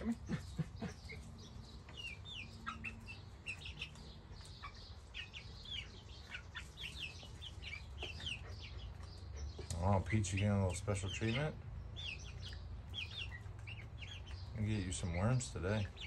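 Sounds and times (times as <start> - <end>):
young hens peeping and chirping: 0.0 - 16.0.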